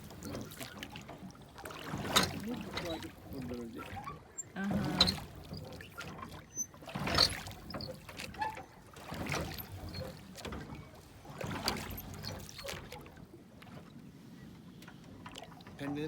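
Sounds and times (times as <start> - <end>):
water splashing at a boat: 0.0 - 16.0.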